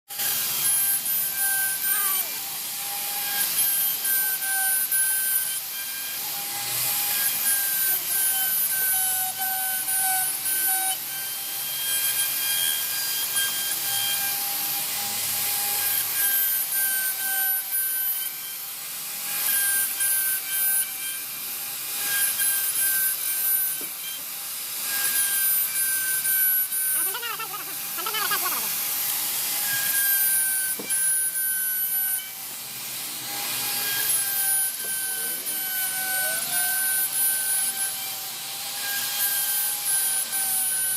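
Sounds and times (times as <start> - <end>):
bit cutting wood: 0.1 - 40.9
router spindle whining: 0.1 - 40.9.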